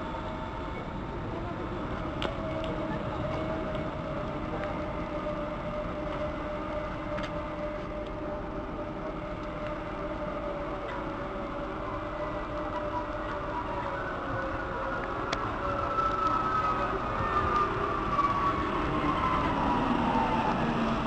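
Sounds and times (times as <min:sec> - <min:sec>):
electric train rumble and whine: 0:00.0 - 0:21.0.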